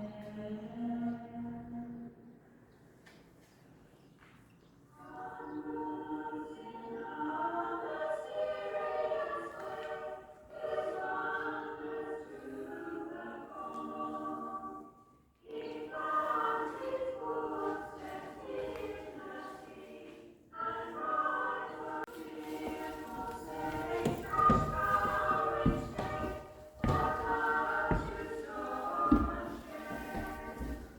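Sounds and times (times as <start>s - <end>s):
choir singing sustained phrases: 0.0s - 2.5s, 4.9s - 30.9s.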